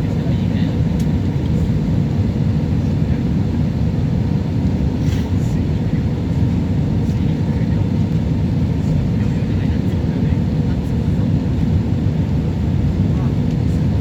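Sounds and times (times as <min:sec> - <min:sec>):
airliner cabin roar: 0:00.0 - 0:14.0.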